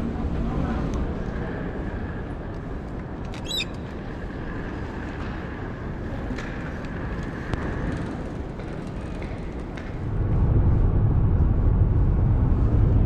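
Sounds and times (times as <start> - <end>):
terminal hall ambience rumble: 0.0 - 13.0.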